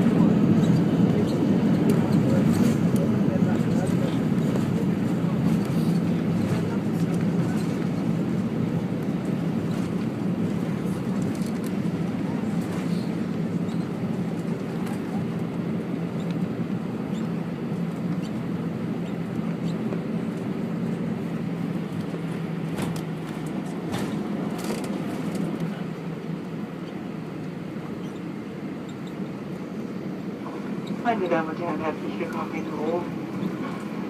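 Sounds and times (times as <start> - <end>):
jet engine cabin hum: 0.0 - 34.0.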